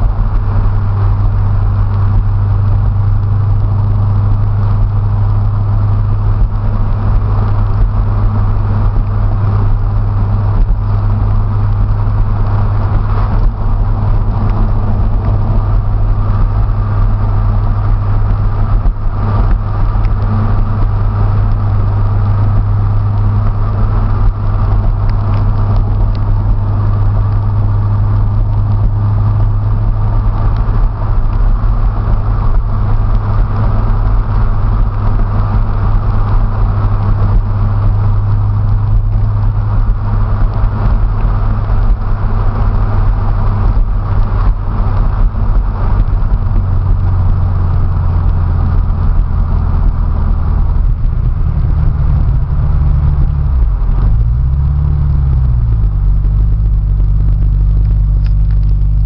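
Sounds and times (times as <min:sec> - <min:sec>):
car engine low drone: 0:00.0 - 0:59.0
road noise: 0:00.0 - 0:59.0.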